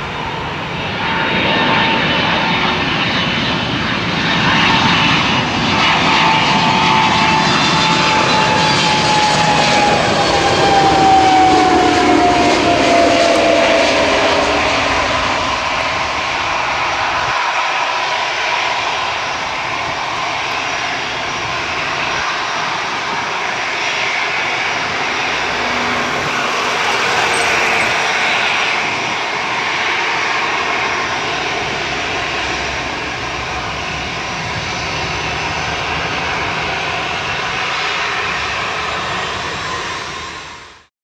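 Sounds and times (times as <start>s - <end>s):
jet airliner landing roar: 0.0s - 40.9s.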